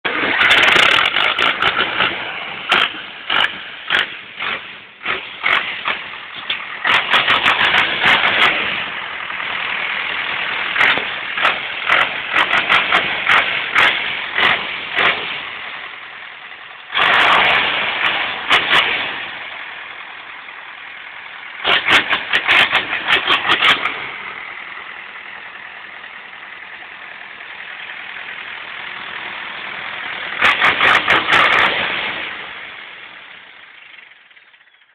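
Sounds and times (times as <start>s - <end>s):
diesel tractor engine surging: 0.0s - 34.9s.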